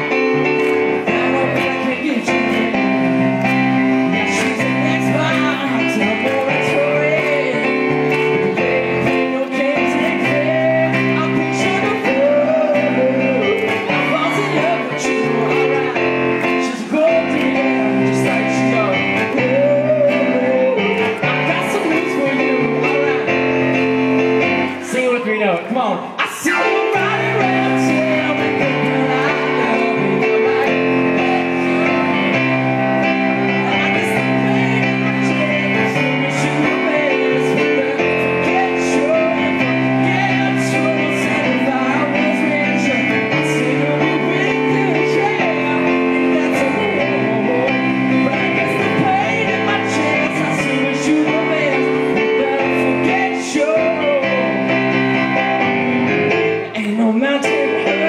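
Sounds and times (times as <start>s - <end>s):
man singing: 0.0s - 55.6s, 56.6s - 58.0s
keyboard piano chords: 0.0s - 58.0s.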